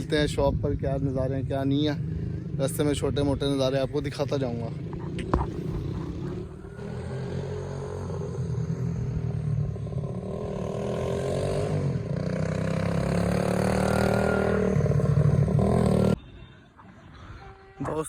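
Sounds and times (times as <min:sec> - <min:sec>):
vehicle engine running: 0:01.2 - 0:16.2.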